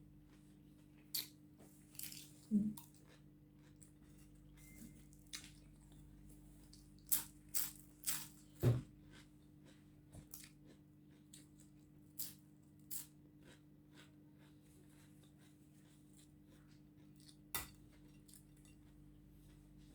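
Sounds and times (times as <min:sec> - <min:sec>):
crunchy food chewing: 0:01.2 - 0:19.9.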